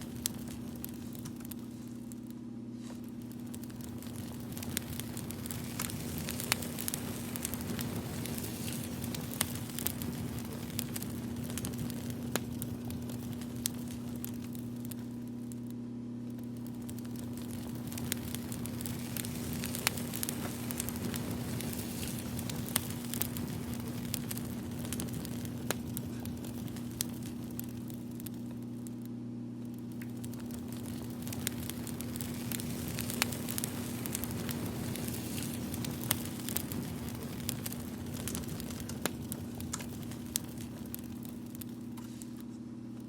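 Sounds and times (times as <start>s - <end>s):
low steady hum: 0.0s - 43.0s
wood fire crackling: 0.0s - 43.0s.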